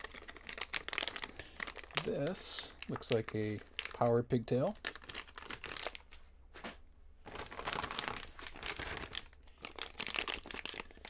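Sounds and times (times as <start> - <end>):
plastic bag crinkling: 0.0 - 6.2, 7.3 - 11.0.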